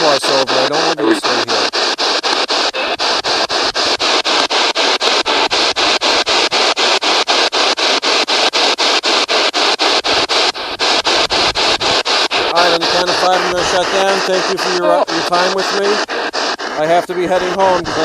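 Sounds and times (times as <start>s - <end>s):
radio static bursts: 0.0s - 18.0s.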